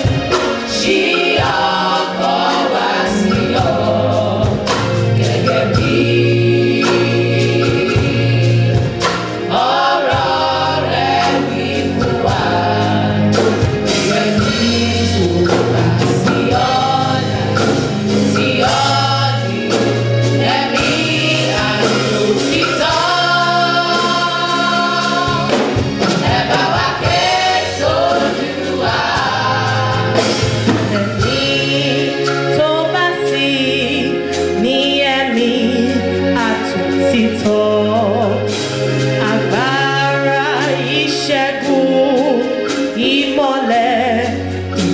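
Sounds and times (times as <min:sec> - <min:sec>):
choir singing in harmony: 0:00.0 - 0:44.9
drum beats: 0:00.0 - 0:44.9.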